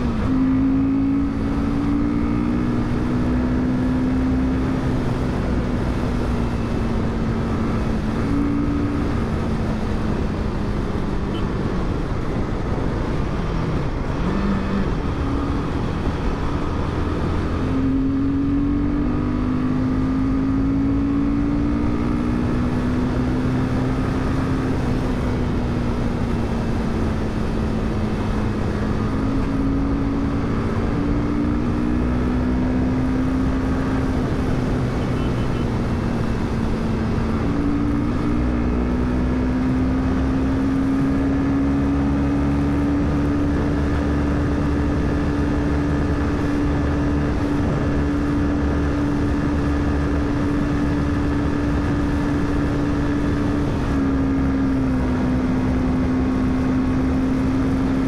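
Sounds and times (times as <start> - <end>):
motorcycle engine at highway speed: 0.0 - 58.0.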